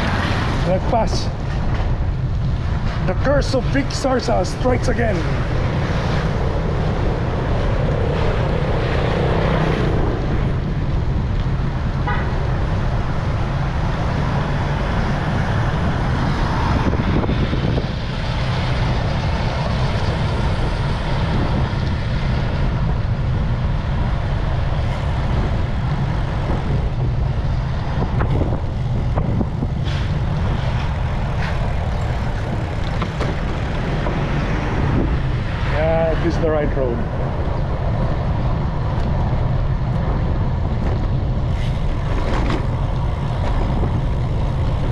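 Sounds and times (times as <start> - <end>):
motor traffic: 0.0 - 44.9
wind rumble on microphone: 0.0 - 44.9.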